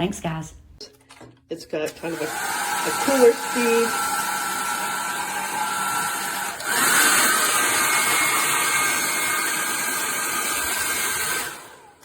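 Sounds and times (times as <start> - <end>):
hair dryer blowing: 1.9 - 12.0.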